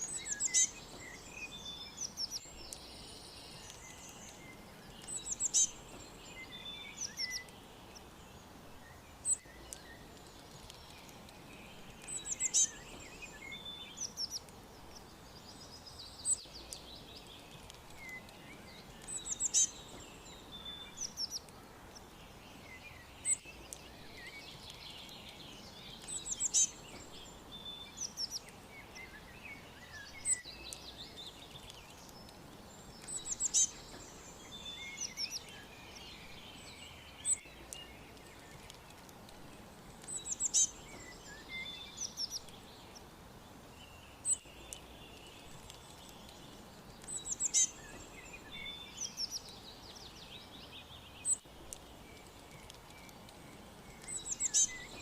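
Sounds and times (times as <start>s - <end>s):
faint background hiss: 0.0s - 55.0s
wild birds chirping: 0.0s - 55.0s.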